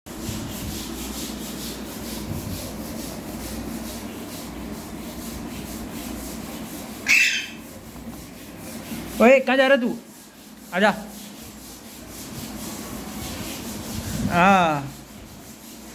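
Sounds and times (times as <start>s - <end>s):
rubbing scraping noise: 0.1s - 15.9s.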